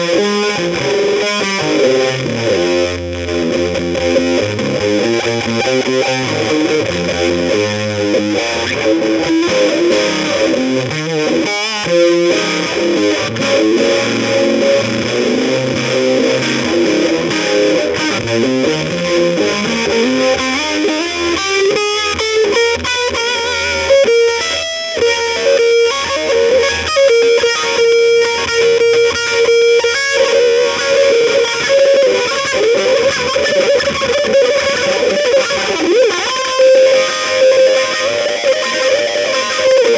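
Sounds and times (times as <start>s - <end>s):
instrumental music: 0.0s - 39.9s.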